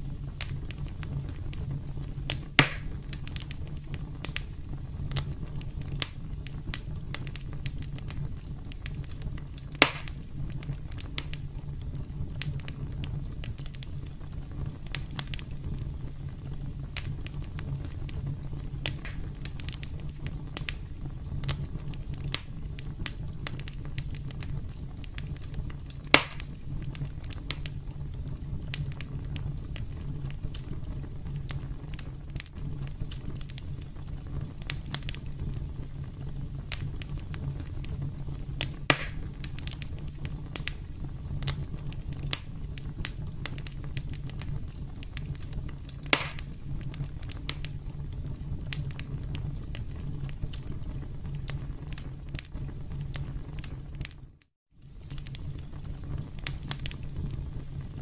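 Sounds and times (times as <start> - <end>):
campfire low rumble: 0.0 - 58.0
loud fire pops: 0.0 - 58.0
wood crackles: 0.0 - 58.0.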